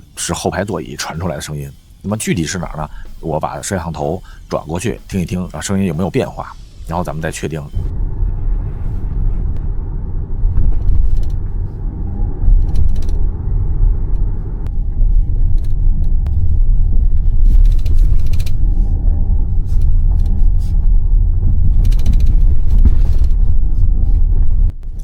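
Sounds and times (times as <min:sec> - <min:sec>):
tyres rumbling on bumpy road: 0:02.2 - 0:25.0.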